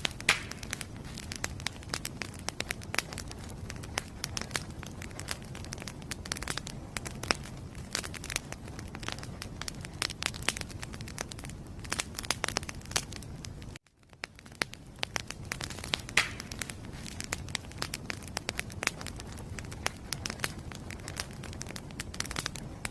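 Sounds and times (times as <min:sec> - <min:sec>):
flame rushing: 0:00.0 - 0:22.9
wood fire crackling and popping: 0:00.0 - 0:22.9.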